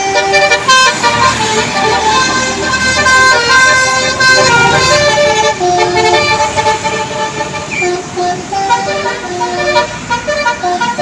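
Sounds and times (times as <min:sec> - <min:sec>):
musical bus horn playing: 0:00.0 - 0:11.0.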